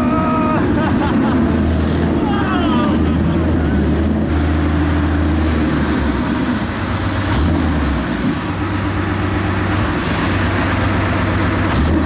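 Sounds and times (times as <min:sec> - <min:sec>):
diesel engine low drone: 0:00.0 - 0:12.0
tracked vehicle travel rumble: 0:00.0 - 0:12.0.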